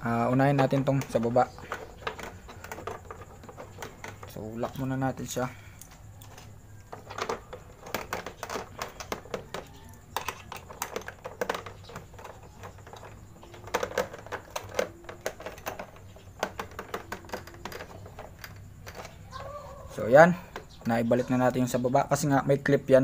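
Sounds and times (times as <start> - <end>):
plastic panels clicking and tapping: 0.0 - 21.6.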